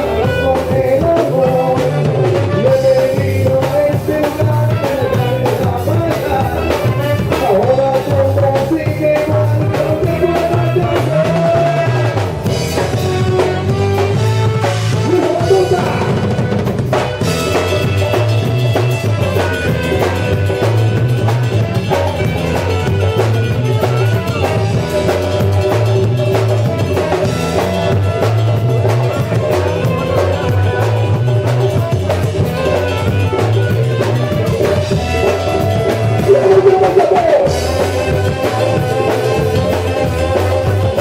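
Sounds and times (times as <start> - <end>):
instrumental band music: 0.0 - 41.0.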